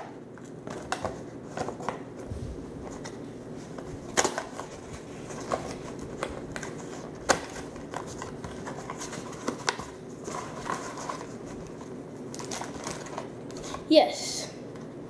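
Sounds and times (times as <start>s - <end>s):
cardboard rustling: 0.4s - 13.8s.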